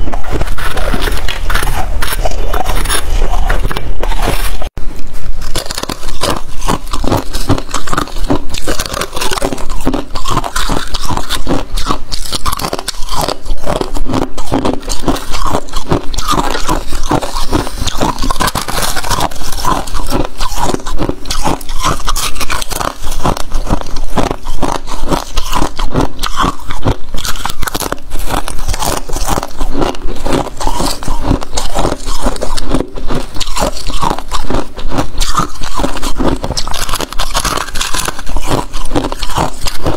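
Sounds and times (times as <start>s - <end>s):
person crunching frost: 0.0s - 39.9s.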